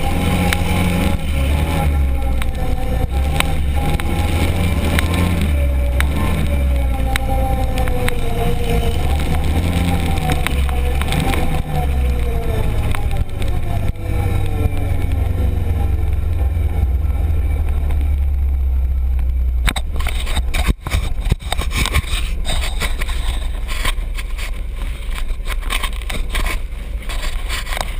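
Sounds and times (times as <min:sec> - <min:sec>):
vehicle engine running: 0:00.0 - 0:27.9
vehicle rattling over rough ground: 0:00.0 - 0:27.9.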